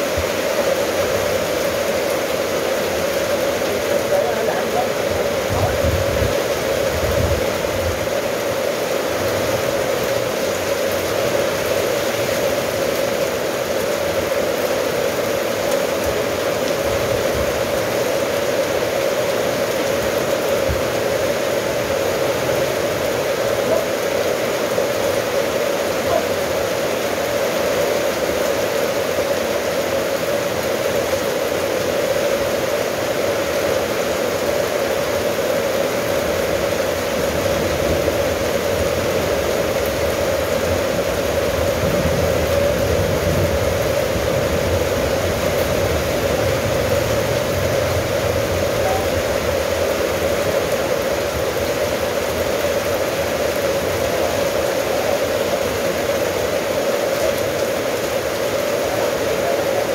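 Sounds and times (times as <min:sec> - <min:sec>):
rain on metal roof: 0:00.0 - 0:59.9.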